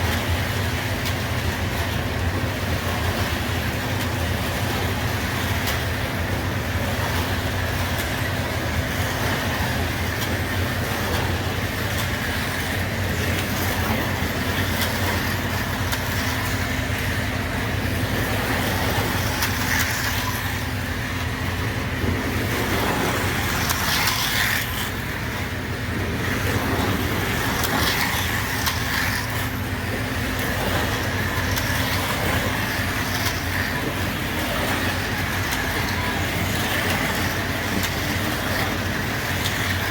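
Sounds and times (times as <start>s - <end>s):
diesel engine rumble: 0.0s - 39.9s
model train wheels rolling: 0.0s - 39.9s.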